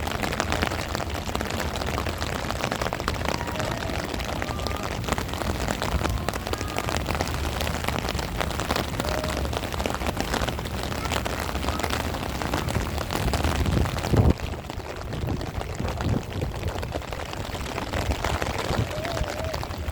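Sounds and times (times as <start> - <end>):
heavy rain: 0.0 - 19.9.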